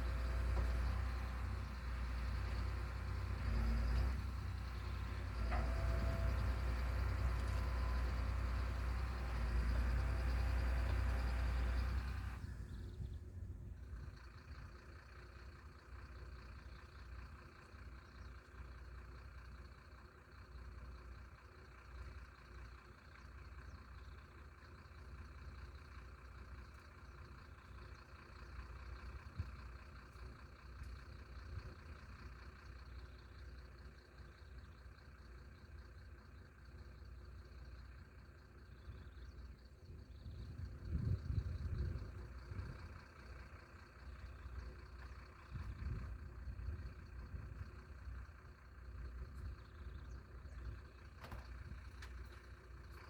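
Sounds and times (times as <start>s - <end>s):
engine idling: 0.0s - 53.0s.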